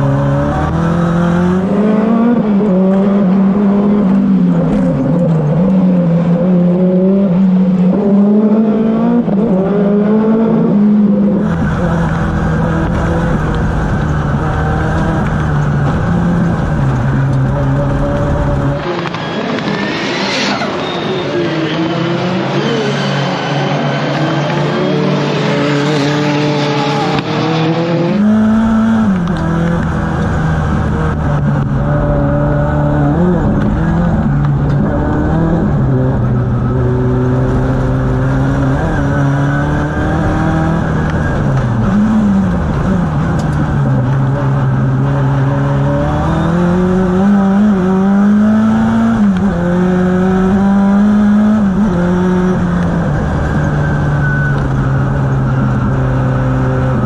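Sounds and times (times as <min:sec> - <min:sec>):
rallycross cars on track: 0:00.0 - 0:57.0.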